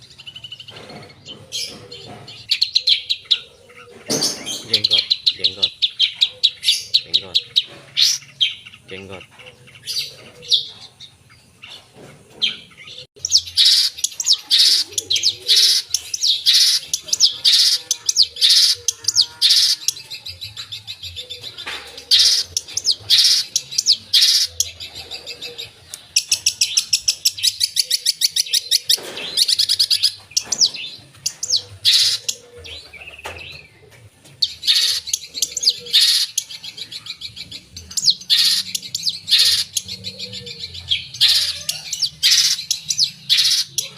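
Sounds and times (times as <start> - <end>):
shrike singing with chirps and trills: 0.0 - 43.9.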